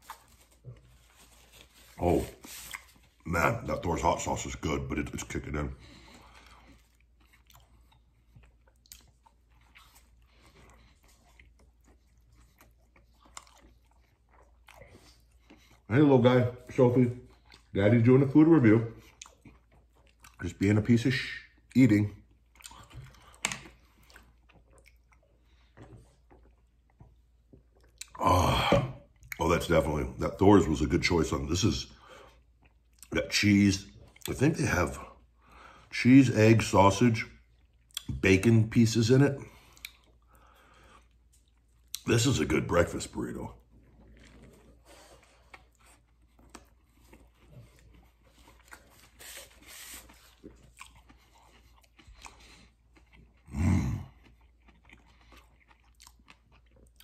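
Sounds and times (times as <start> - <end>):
man chewing food: 0.0 - 38.5, 39.1 - 57.0.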